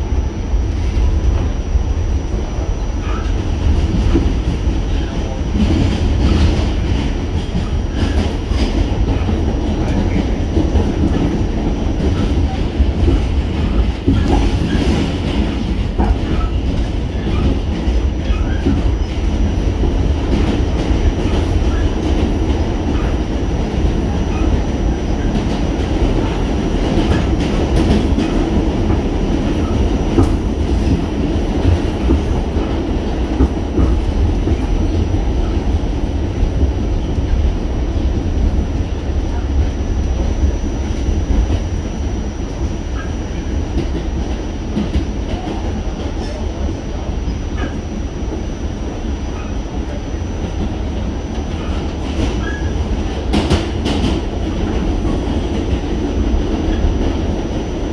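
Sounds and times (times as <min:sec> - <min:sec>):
subway car rumble: 0:00.0 - 0:57.9.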